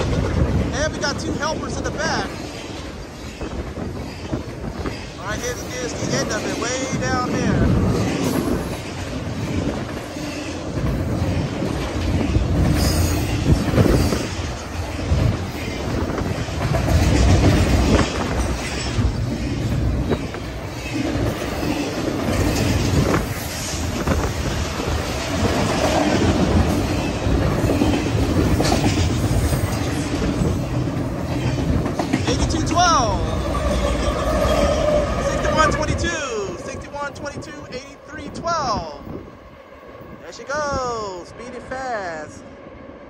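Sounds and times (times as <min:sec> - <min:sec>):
wheels clacking over rail joints: 0:00.0 - 0:36.4
freight train rumble: 0:00.0 - 0:43.0.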